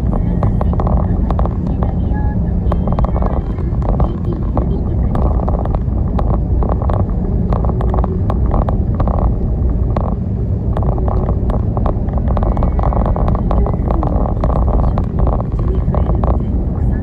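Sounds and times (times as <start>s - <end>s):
road and engine rumble: 0.0s - 17.0s
sharp clicks and rattles: 0.0s - 17.0s.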